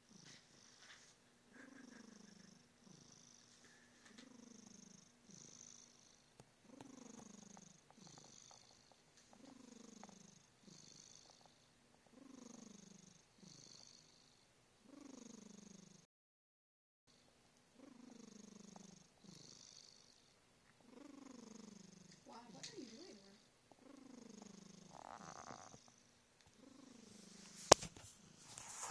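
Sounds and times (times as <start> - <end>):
cat purring and snoring: 0.0 - 16.1, 17.8 - 28.9.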